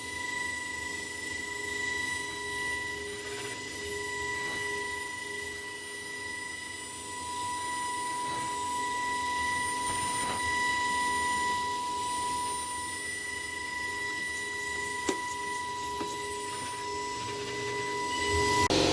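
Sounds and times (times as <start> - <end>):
cutting machine high-pitched whine: 0.0 - 18.9.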